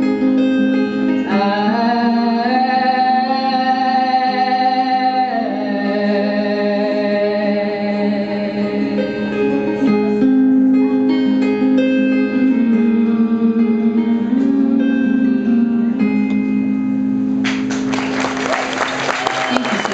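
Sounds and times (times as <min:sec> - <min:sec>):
acoustic guitar picking: 0:00.0 - 0:17.9.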